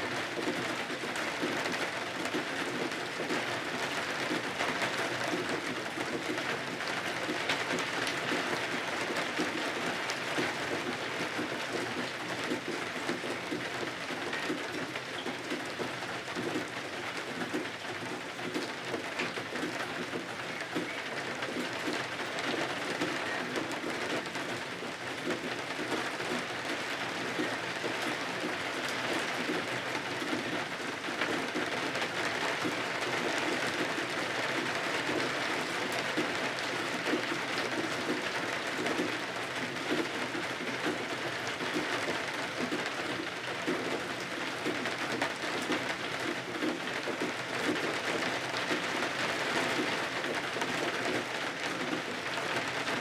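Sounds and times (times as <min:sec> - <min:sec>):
rain pattering on windows: 0:00.0 - 0:53.0.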